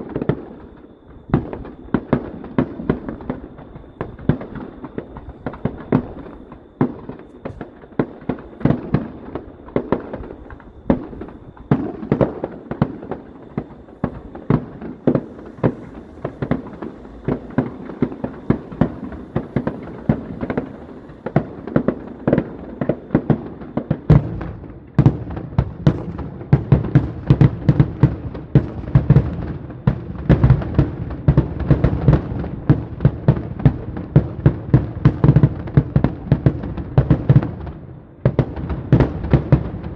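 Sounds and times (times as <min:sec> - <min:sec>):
deep fireworks rumble: 0:00.0 - 0:39.9
fireworks bangs: 0:00.0 - 0:39.9.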